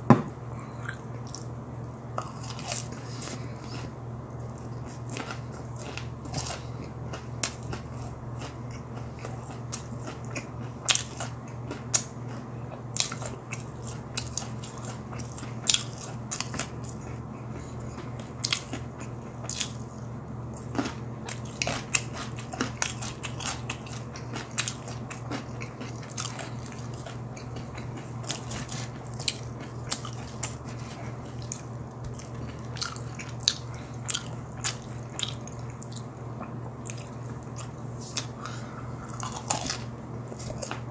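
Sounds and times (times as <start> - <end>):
steady low hum: 0.0 - 40.9
crunchy chewing of fried chicken: 0.6 - 40.9.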